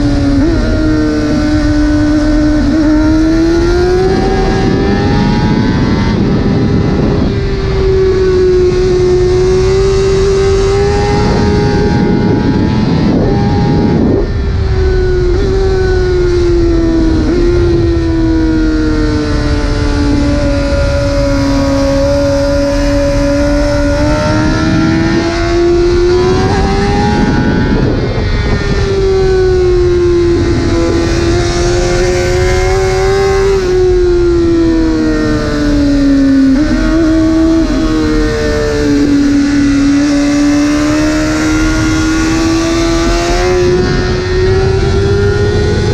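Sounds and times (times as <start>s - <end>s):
motorcycle engine at high revs: 0.0s - 45.9s
wind rushing across microphone: 0.0s - 45.9s.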